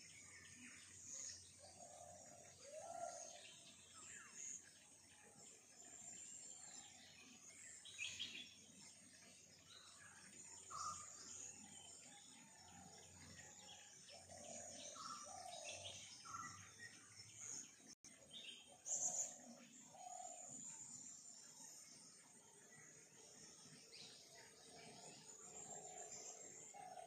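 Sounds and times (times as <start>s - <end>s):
birds chirping and calling: 0.0s - 27.0s.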